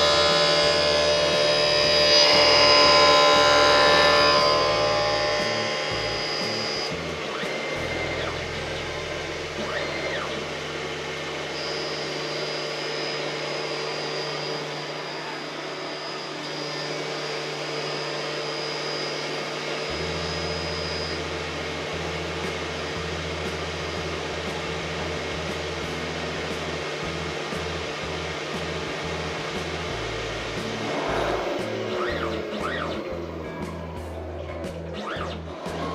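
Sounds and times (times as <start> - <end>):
thin high whine: 0.0 - 35.9.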